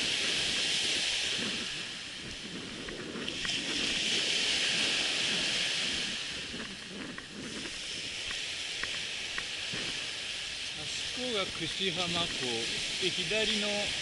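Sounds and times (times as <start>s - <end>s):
surf washing up beach: 0.0s - 14.0s
wind buffeting microphone: 0.0s - 14.0s.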